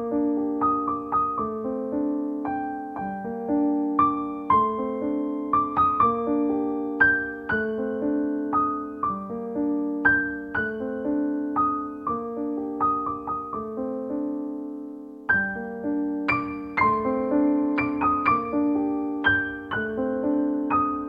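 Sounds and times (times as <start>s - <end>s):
soft piano music: 0.0s - 21.0s.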